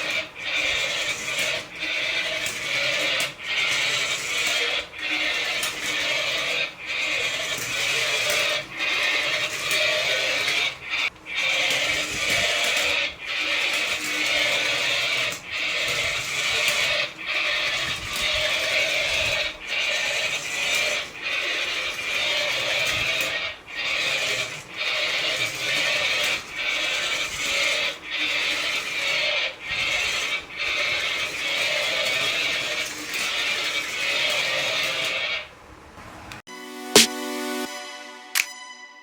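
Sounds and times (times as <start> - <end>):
toy motor whirring: 0.0 - 35.5.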